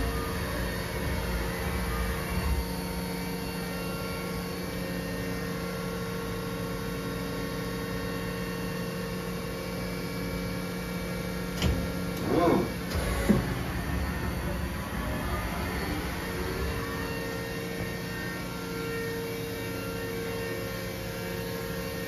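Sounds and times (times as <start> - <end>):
electrical machine hum: 0.0 - 22.0.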